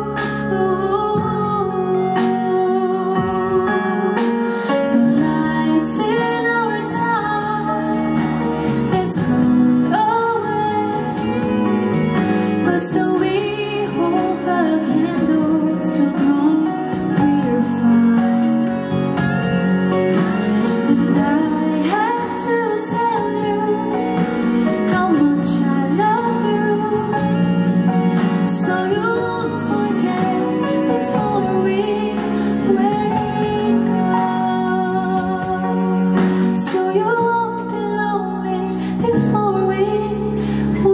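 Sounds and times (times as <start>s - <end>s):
woman singing into microphone: 0.0s - 19.5s, 20.2s - 40.9s
instrumental accompaniment: 0.0s - 40.9s.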